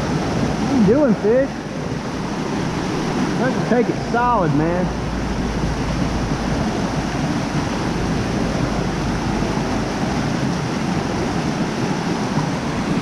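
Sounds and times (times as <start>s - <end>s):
wind rumble on microphone: 0.0s - 4.0s, 4.8s - 13.0s
stream running over rocks: 0.0s - 13.0s.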